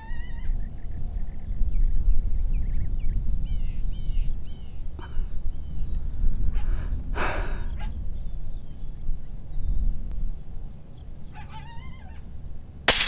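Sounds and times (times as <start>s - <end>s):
steady low rumble: 0.3s - 12.9s.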